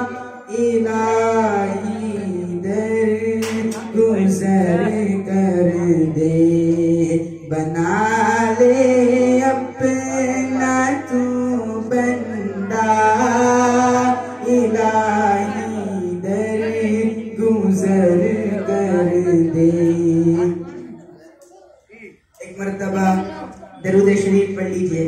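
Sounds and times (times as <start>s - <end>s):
man singing devotional chant: 0.0s - 21.2s, 21.9s - 25.0s.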